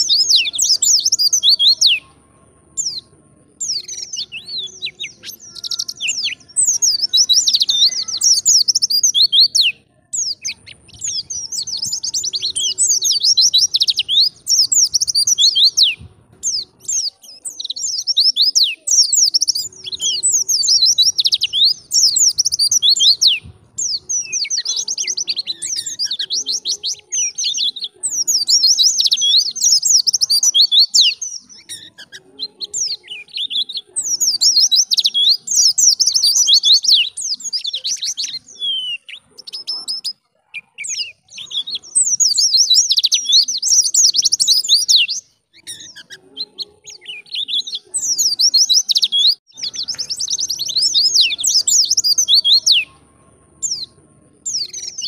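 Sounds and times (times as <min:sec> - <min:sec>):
bird twittering: 0:00.0 - 0:53.0.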